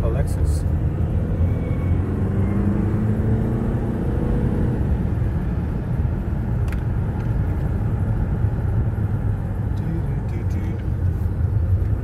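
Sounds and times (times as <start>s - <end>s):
low road rumble: 0.0s - 12.0s.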